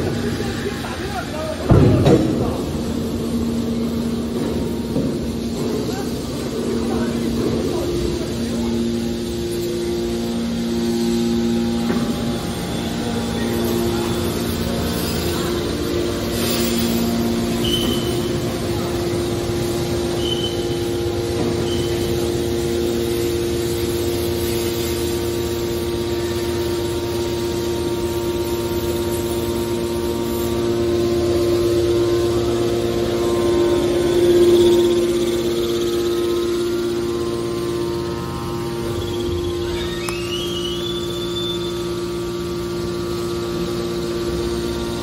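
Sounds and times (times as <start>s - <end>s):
hydraulic baler hum and whine: 0.0s - 45.0s.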